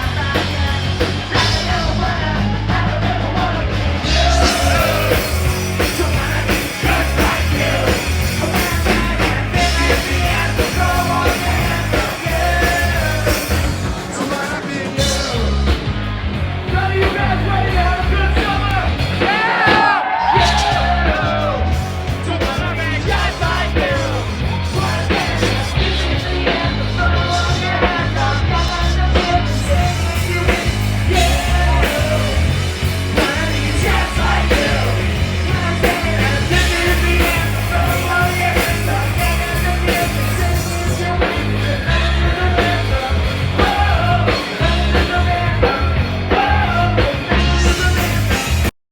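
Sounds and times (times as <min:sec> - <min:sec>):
heavy pulsing bass beat: 0:00.0 - 0:14.1, 0:20.4 - 0:48.7
rock music with singer: 0:00.0 - 0:48.7.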